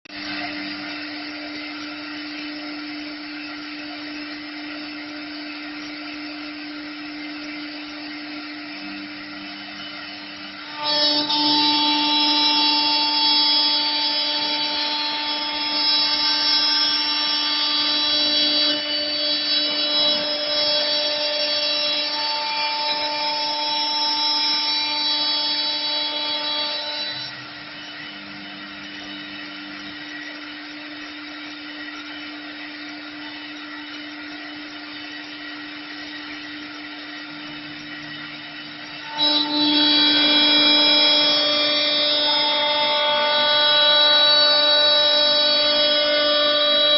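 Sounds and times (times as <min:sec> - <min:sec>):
router spindle whining: 0:00.1 - 0:46.9.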